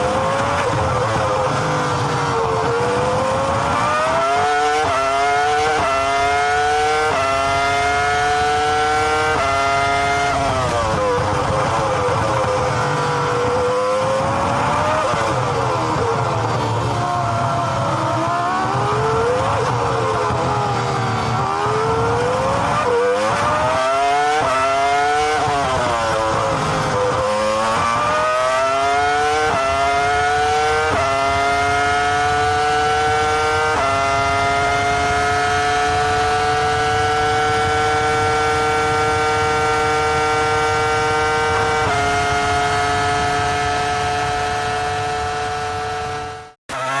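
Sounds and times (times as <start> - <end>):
engine gearshifts: 0.0 - 47.0
racing engine revving: 0.0 - 47.0.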